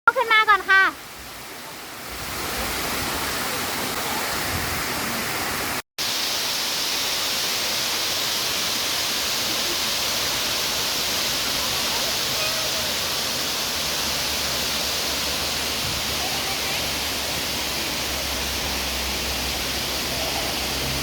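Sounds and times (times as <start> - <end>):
waterfall rushing: 0.1 - 21.0.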